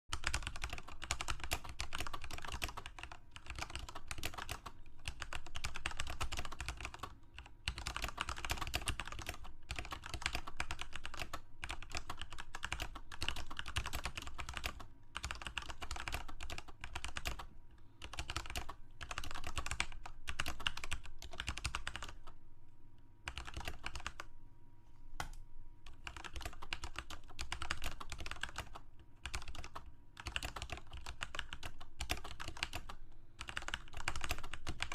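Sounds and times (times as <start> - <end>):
computer keyboard typing: 0.1 - 22.4, 23.2 - 24.3, 25.2 - 34.9.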